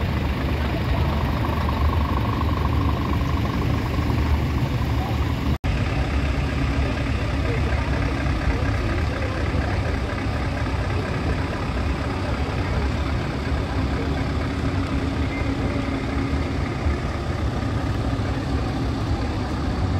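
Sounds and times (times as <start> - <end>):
diesel truck engines idling: 0.0 - 19.9
steady hum: 0.0 - 19.9.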